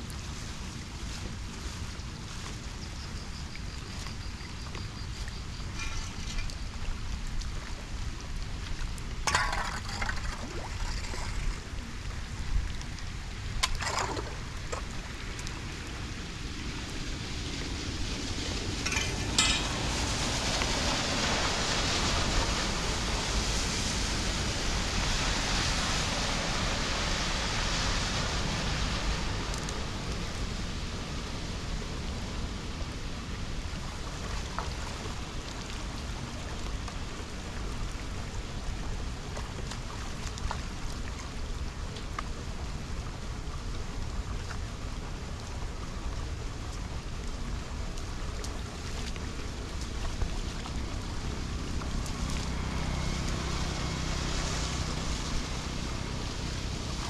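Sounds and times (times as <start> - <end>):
rain falling on flooded road: 0.0 - 57.0
wind rumbling on microphone: 0.0 - 57.0.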